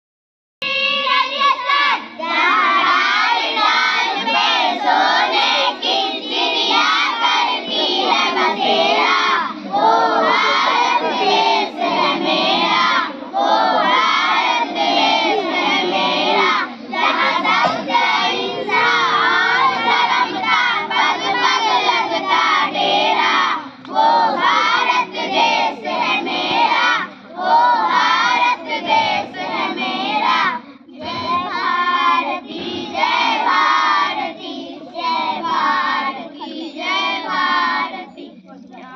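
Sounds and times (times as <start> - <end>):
children singing in unison: 0.6 - 38.9.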